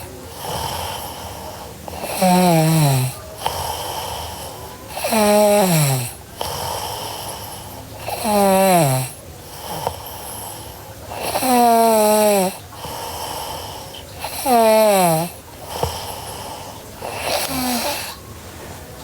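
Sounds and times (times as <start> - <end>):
girl snoring: 0.0 - 18.3
noisy breathing: 0.0 - 19.0.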